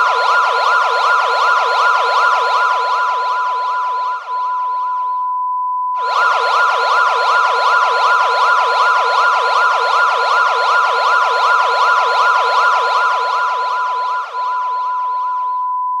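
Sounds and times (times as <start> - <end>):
fast wailing siren: 0.0 - 5.3, 6.0 - 15.9
steady high beep tone: 0.0 - 16.0.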